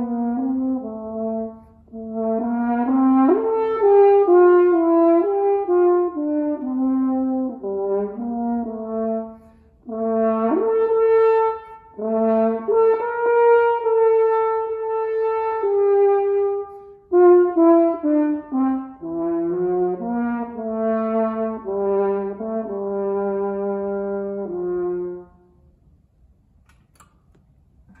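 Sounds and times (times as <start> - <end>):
french horn melody: 0.0 - 25.7.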